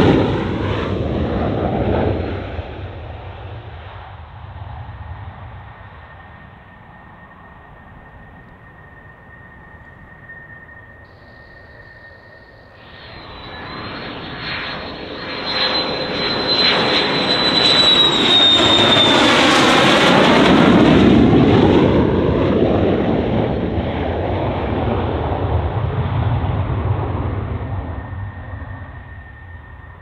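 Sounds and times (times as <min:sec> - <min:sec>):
jet engine whine and roar: 0:00.0 - 0:30.0
low jet rumble: 0:00.0 - 0:30.0.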